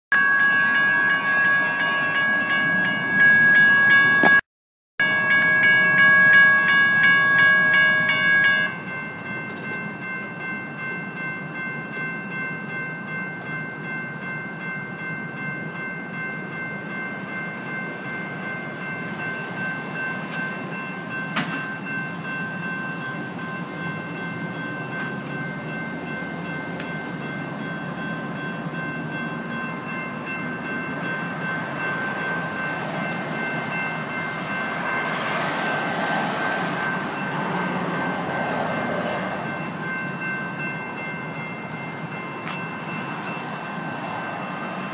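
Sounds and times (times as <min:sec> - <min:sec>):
electronic crossing bells ringing: 0:00.1 - 0:04.4, 0:05.0 - 0:44.9
approaching train: 0:00.2 - 0:04.4, 0:05.0 - 0:44.9.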